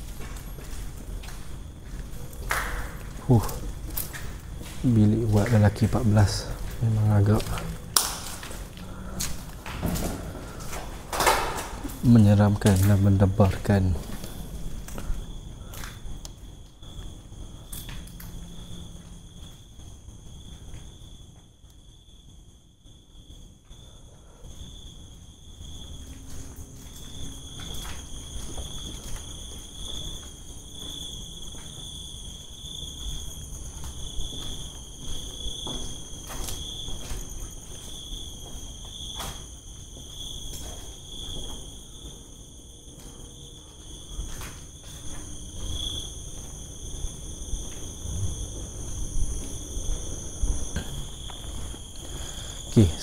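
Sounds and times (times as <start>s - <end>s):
crickets and insects trilling: 0.0s - 53.0s.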